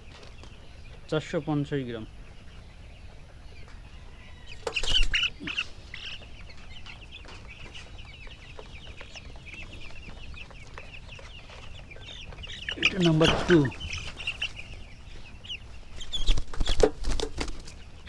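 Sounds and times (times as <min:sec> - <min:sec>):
chicks cheeping: 0:00.0 - 0:18.0
chicks scuffling: 0:00.0 - 0:18.0.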